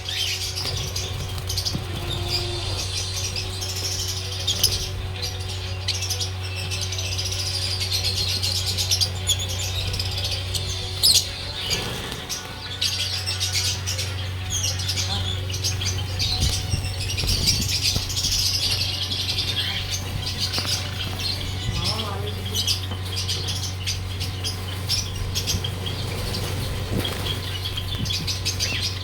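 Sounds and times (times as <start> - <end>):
wings fluttering: 0.0 - 6.8, 8.1 - 29.0
cage birds chirping: 0.0 - 29.0
steady low hum: 0.0 - 29.0.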